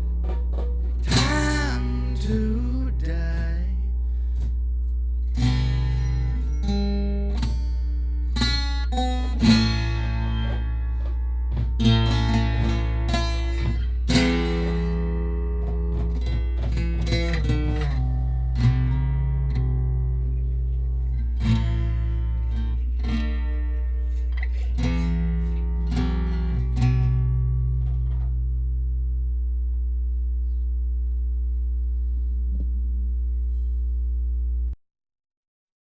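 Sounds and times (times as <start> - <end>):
plucked guitar notes: 0.0 - 30.6
steady low drone: 0.0 - 34.8.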